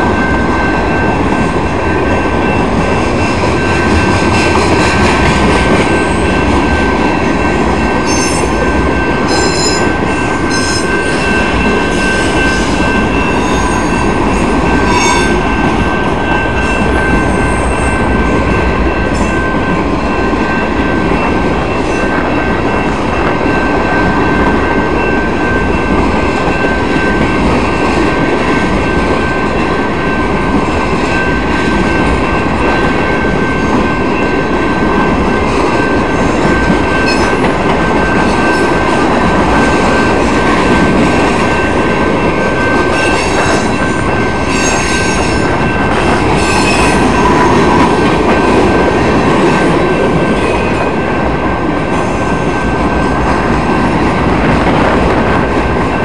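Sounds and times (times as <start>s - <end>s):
continuous high-pitched tone: 0.0s - 54.6s
train wheels rumbling on rails: 0.0s - 56.0s.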